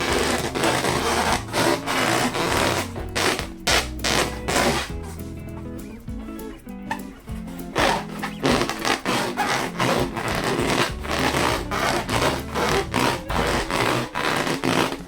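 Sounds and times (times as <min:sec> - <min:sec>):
hands rubbing a balloon: 0:00.0 - 0:05.4, 0:06.9 - 0:15.0
background music: 0:00.0 - 0:15.0.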